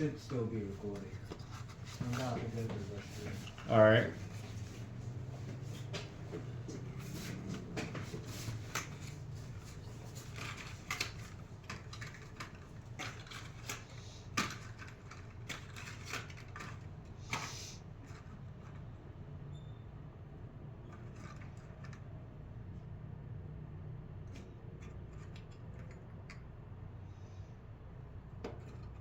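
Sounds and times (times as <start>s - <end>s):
small parts and tools rattling: 0.0s - 4.9s, 5.7s - 19.7s, 20.8s - 22.4s, 24.3s - 26.5s, 28.4s - 29.0s.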